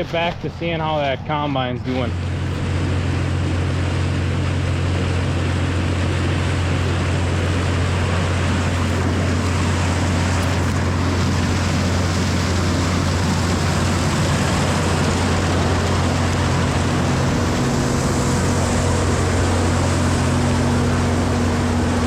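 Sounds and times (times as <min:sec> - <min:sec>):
even rushing noise: 0:00.0 - 0:22.0
heavy engine drone: 0:00.0 - 0:22.0.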